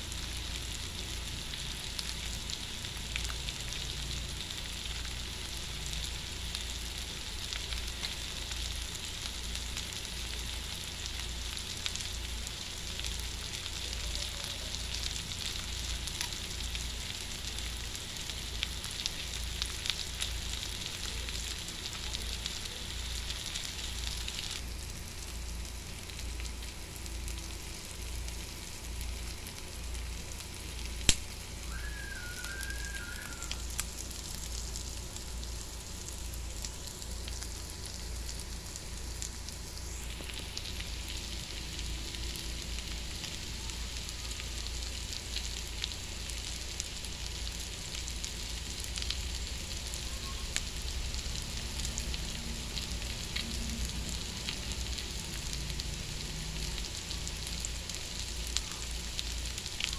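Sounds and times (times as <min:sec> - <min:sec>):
food sizzling in a wok: 0:00.0 - 0:59.9.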